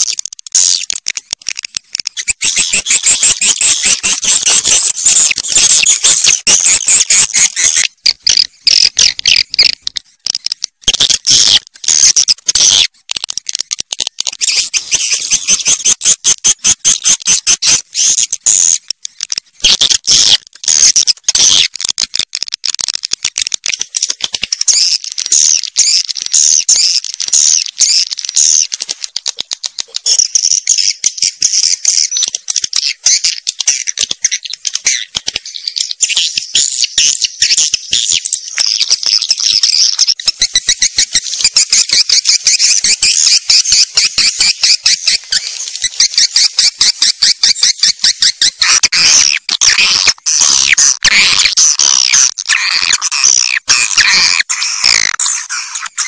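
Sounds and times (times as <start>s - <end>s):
swiftlets twittering: 0.0s - 12.9s, 23.8s - 56.0s.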